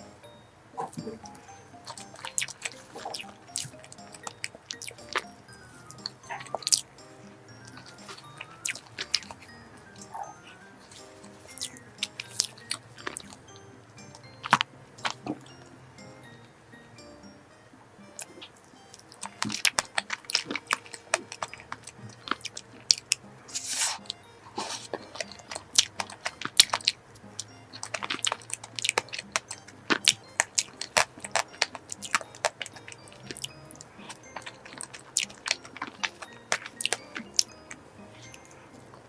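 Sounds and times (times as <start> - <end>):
close-miked eating and chewing: 0.0 - 16.1, 18.0 - 39.0.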